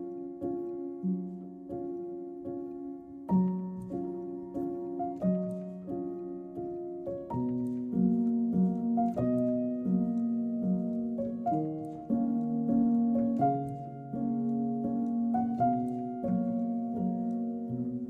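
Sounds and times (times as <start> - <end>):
gentle plucked and piano music: 0.0 - 18.0.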